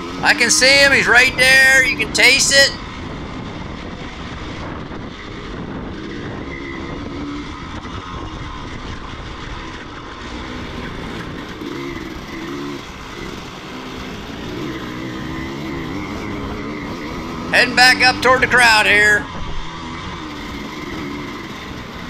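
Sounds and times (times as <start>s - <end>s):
motocross bike engine revving: 0.0s - 3.4s, 5.4s - 22.0s.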